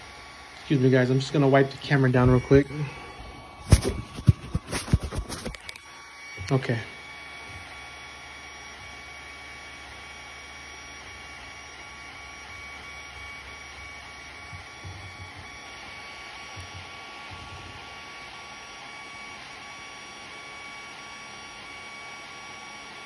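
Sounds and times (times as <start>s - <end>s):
printer motor whine: 0.0s - 23.0s.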